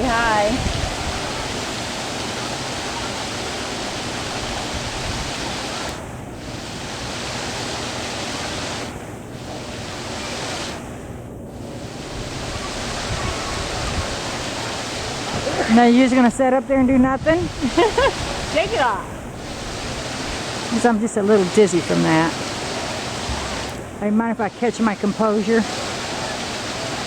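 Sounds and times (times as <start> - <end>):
falling water rushing: 0.0 - 27.0.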